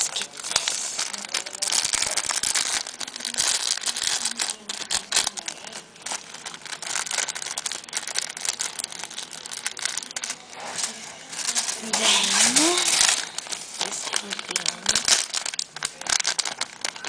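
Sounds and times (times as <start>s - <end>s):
paper bag crinkling: 0.0s - 17.0s.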